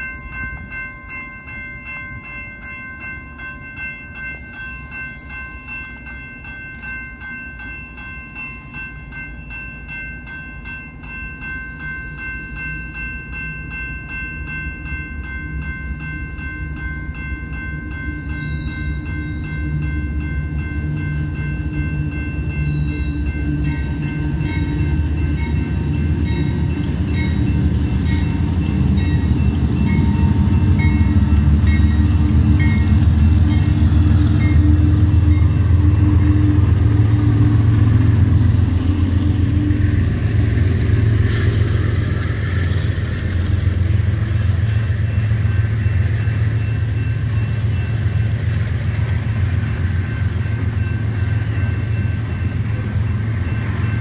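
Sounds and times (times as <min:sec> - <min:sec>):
crossing bell ringing: 0:00.0 - 0:54.0
diesel locomotives passing: 0:00.0 - 0:54.0
freight cars rolling on rails: 0:00.0 - 0:54.0.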